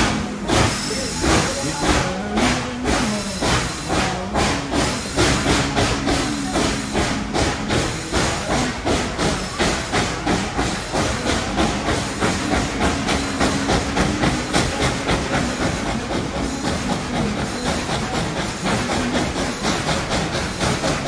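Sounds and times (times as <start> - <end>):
steam hissing: 0.0 - 21.0
steam locomotive exhaust chuffing: 0.0 - 21.0.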